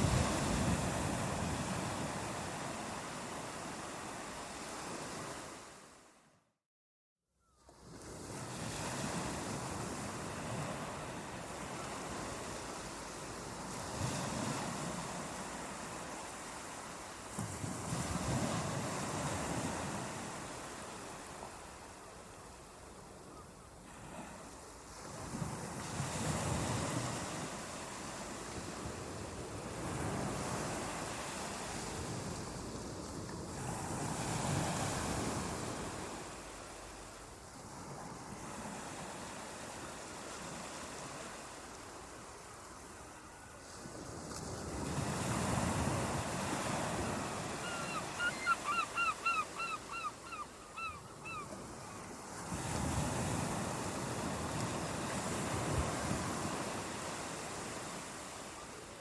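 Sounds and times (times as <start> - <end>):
ocean waves breaking on beach: 0.0 - 6.1, 7.7 - 23.0, 23.8 - 59.0.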